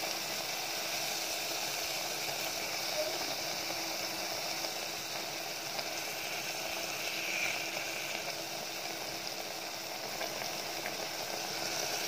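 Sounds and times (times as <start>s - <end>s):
meat sizzling and bubbling: 0.0s - 12.0s.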